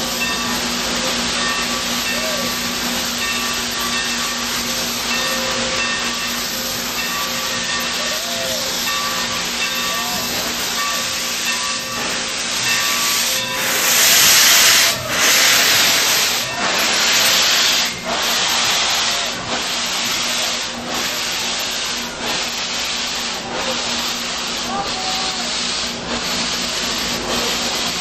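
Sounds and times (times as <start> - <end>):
steam locomotive hissing steam: 0.0 - 28.0.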